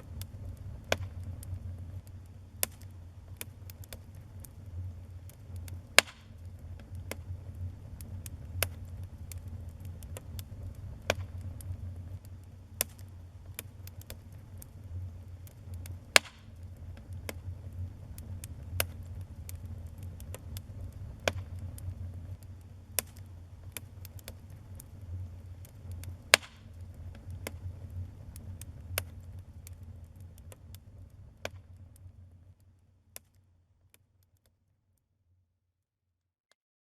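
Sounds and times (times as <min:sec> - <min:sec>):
wood fire crackling: 0:00.0 - 0:34.5.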